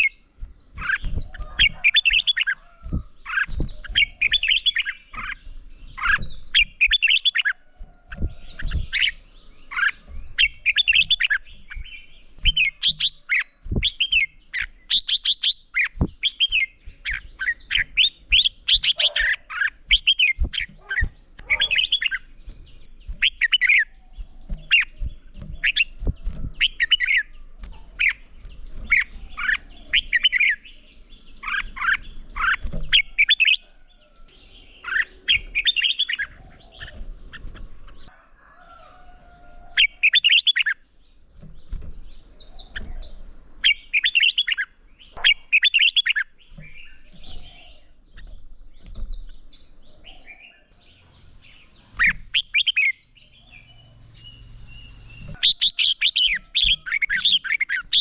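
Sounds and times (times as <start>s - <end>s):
birds singing warbled phrases: 0.0s - 58.0s.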